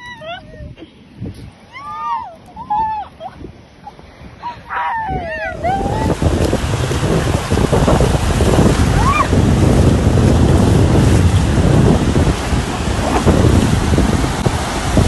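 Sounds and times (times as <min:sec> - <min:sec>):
wind rumbling on microphone: 0:00.0 - 0:15.0
ocean surf washing in: 0:01.0 - 0:15.0.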